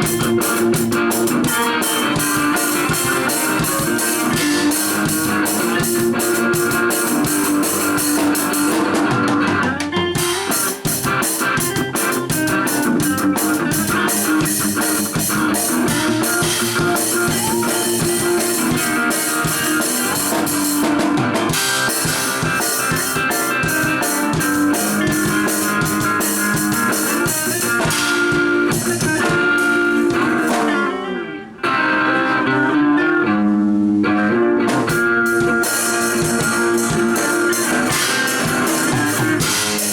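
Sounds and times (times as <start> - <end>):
bluesy rock with electric guitar: 0.0 - 39.9.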